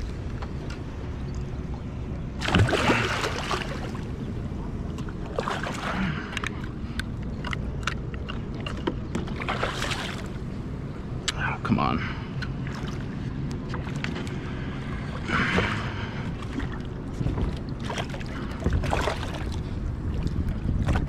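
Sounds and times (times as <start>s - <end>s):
water sloshing around kayak: 0.0s - 11.1s, 12.3s - 21.0s
low rumble of wind and water: 0.0s - 21.0s.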